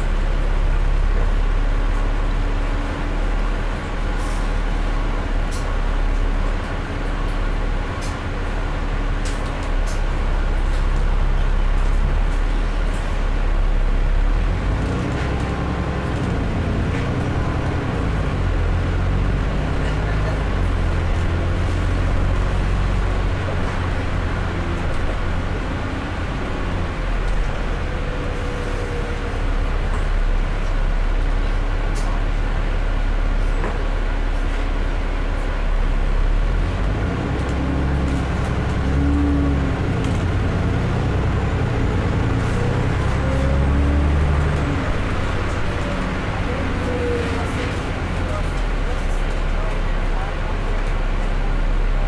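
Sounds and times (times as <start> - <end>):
bus diesel engine running: 0.0 - 52.0.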